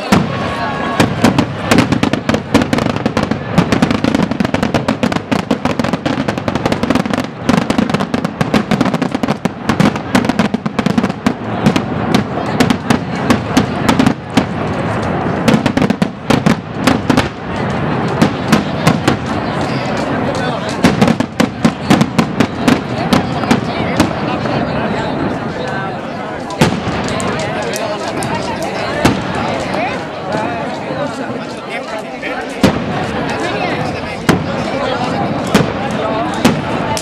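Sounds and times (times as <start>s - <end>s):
firecracker bangs: 0.0s - 24.7s, 26.5s - 30.1s, 32.5s - 37.0s.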